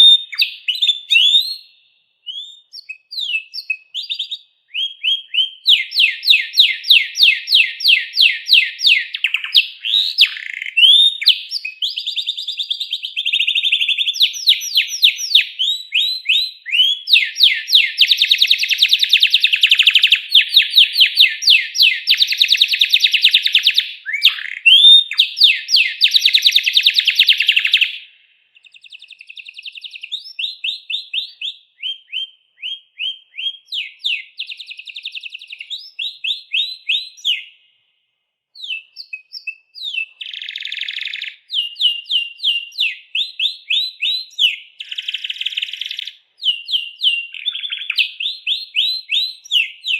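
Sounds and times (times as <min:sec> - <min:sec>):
canary singing trills: 0:00.0 - 0:37.7, 0:38.6 - 0:49.9.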